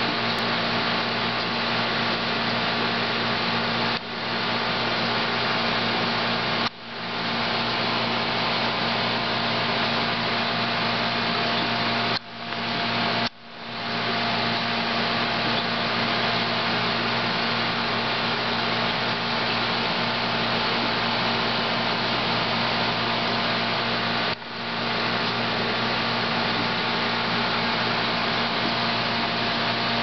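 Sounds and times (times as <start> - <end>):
air pump humming: 0.0 - 30.0
aquarium filter bubbling: 0.0 - 30.0.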